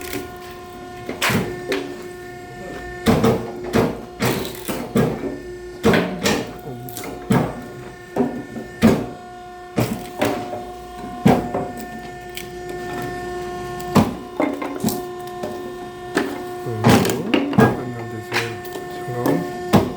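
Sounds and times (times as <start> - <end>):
wood-splitting machine humming: 0.0 - 19.9.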